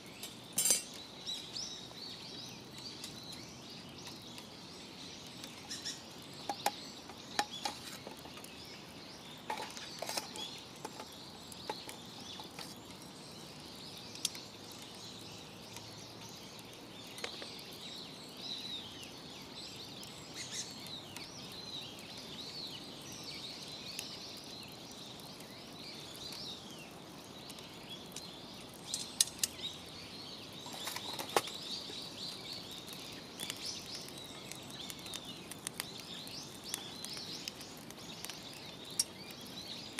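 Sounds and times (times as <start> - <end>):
small birds chirping: 0.0 - 39.9
wood fire crackling: 0.0 - 39.9.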